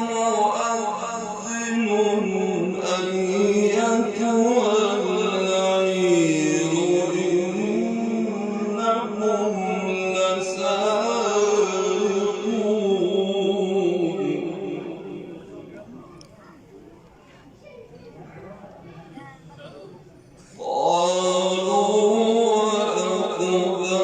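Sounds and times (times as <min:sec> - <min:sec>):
man chanting melodic recitation: 0:00.0 - 0:16.0, 0:20.6 - 0:24.0.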